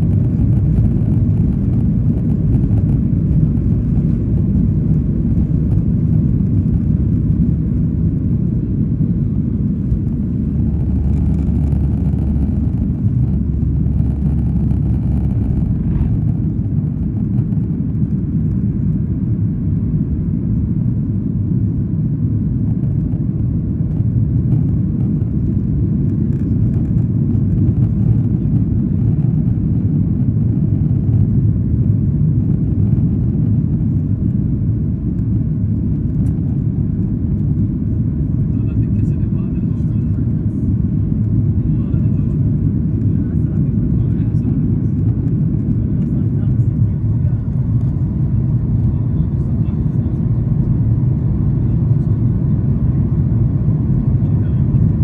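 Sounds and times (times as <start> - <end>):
heavy low rumble: 0.0 - 55.0
jet engines rumbling at takeoff: 0.0 - 55.0.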